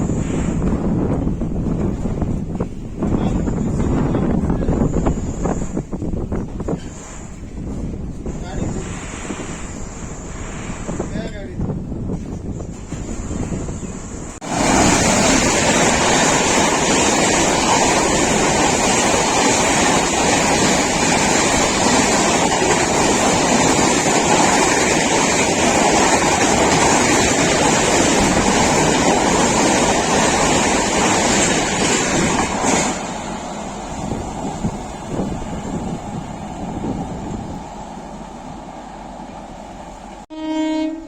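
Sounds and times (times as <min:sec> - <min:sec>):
train rushing and rumbling: 0:00.0 - 0:41.0.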